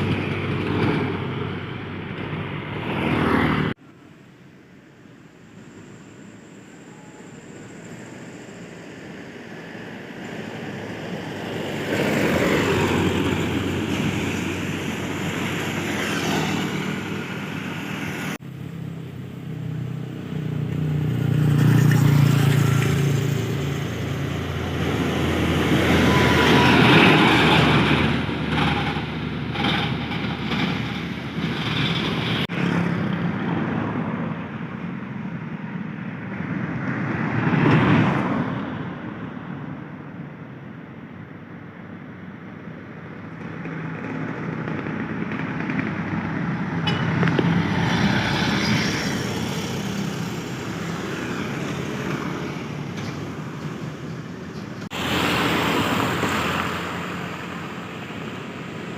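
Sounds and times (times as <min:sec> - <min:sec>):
trucks driving by: 0:00.0 - 0:58.9.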